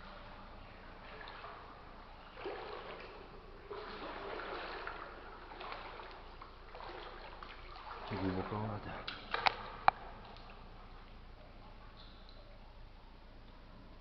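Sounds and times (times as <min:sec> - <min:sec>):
water sloshing from wading: 0:00.0 - 0:14.0.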